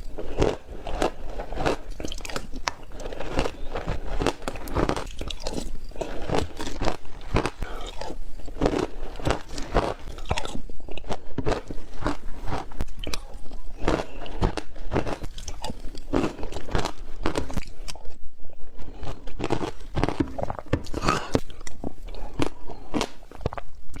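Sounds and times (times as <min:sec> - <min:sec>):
ice crunching in mouth: 0:00.0 - 0:18.0, 0:18.6 - 0:24.0.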